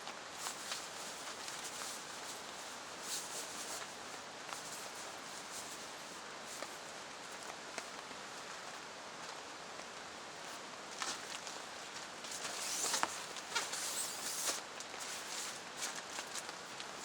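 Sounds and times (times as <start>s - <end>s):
steady hiss: 0.0s - 17.0s
rustling: 0.1s - 8.8s, 10.4s - 17.0s
footsteps crunching: 0.4s - 17.0s.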